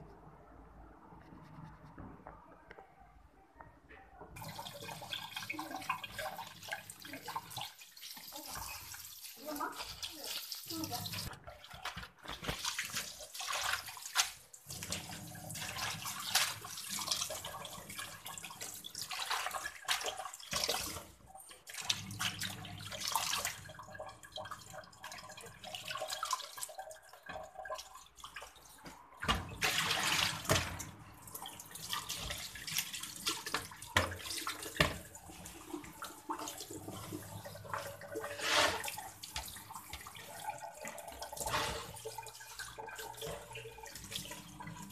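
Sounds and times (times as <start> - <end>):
tap water running into sink: 4.4 - 44.9.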